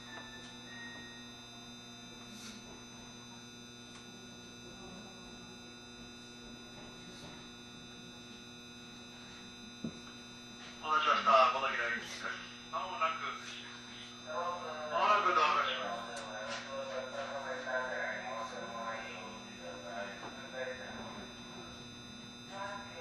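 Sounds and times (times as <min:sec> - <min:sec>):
electric train equipment hum: 0:00.0 - 0:23.0.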